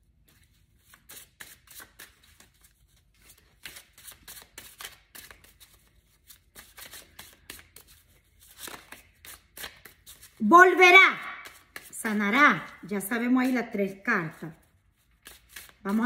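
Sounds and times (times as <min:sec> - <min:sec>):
cards being shuffled: 0:00.2 - 0:10.4, 0:11.3 - 0:16.0.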